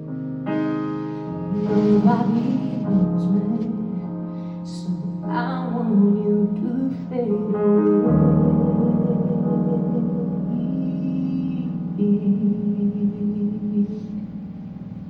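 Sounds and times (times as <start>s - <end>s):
sustained keyboard chords: 0.0s - 15.0s
woman singing with vibrato: 1.5s - 14.4s.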